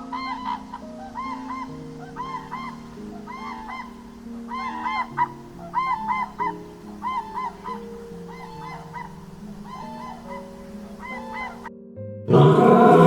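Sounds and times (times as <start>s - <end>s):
geese honking: 0.0s - 11.7s
background music with held notes: 0.0s - 13.0s.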